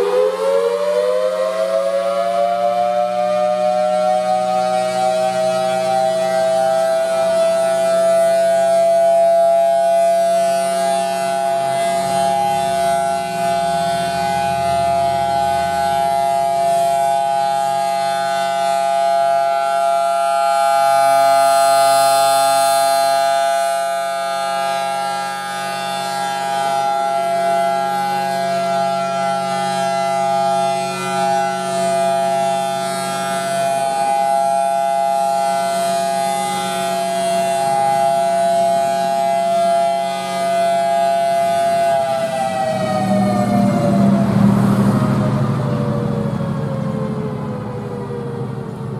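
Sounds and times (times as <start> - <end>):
dual-tone siren steady chord: 0.0 - 48.9.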